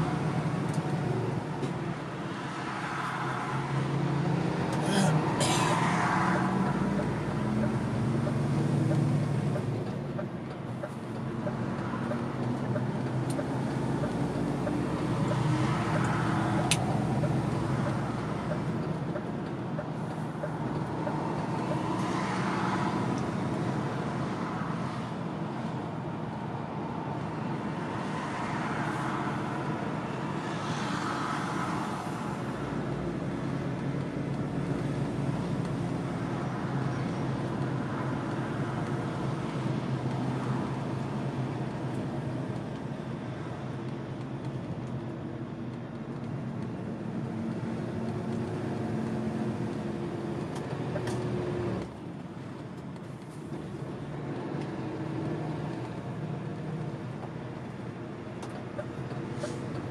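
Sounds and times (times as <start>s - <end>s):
tyre noise on road: 0.0s - 59.9s.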